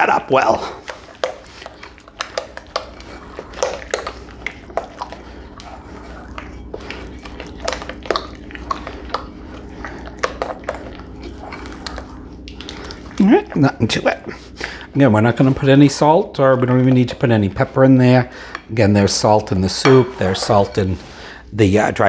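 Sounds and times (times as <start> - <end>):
low hum: 0.6 - 21.6.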